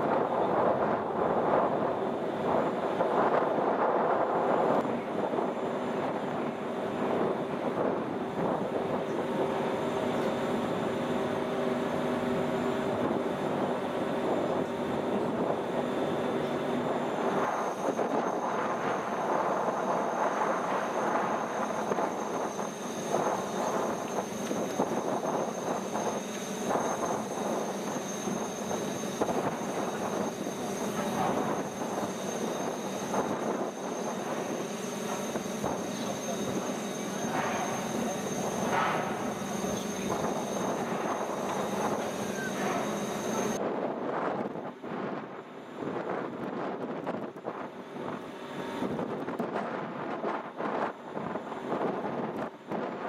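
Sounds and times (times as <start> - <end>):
ship engines droning: 0.0 - 43.6
high whine: 0.0 - 53.0.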